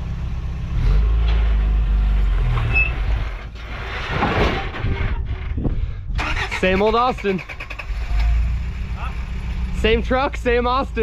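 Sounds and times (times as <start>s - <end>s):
truck engine under load: 0.0s - 11.0s.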